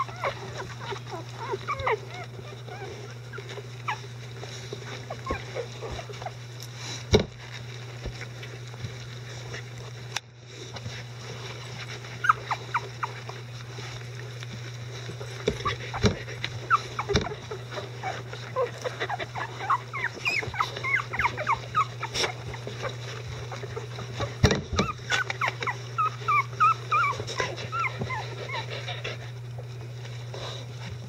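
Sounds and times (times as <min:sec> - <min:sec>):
puppies squeaking and whimpering: 0:00.0 - 0:10.0, 0:10.8 - 0:31.0
low steady hum: 0:00.0 - 0:31.0.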